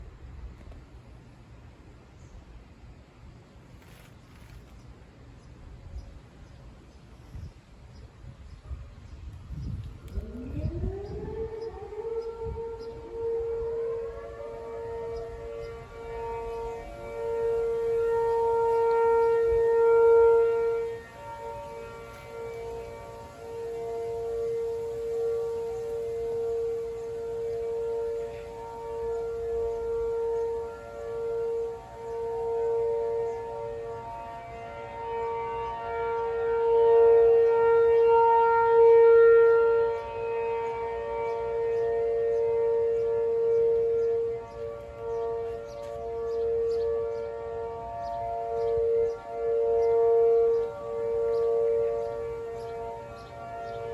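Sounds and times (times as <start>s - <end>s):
tornado sirens steady tone: 0.0s - 53.9s.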